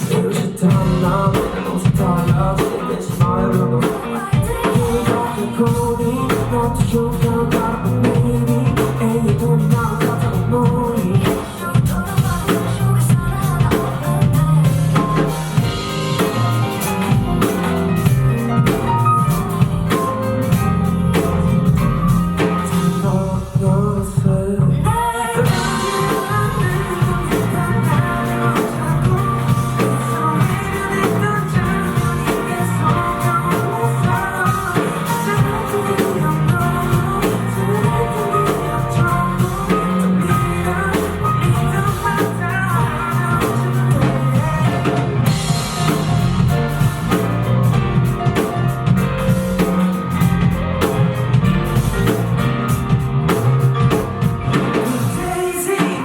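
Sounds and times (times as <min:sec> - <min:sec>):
person singing: 0:00.0 - 0:50.2, 0:53.8 - 0:56.0
drum kit: 0:00.0 - 0:56.0
guitar: 0:00.0 - 0:56.0.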